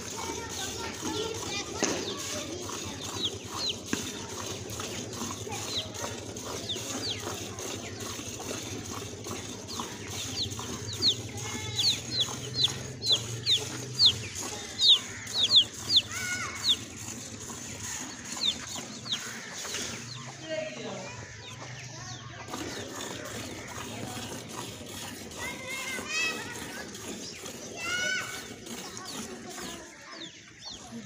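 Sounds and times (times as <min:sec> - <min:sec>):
milk squirting into steel bucket: 0:00.0 - 0:20.1, 0:22.5 - 0:30.0
chickens chirping: 0:00.0 - 0:31.0.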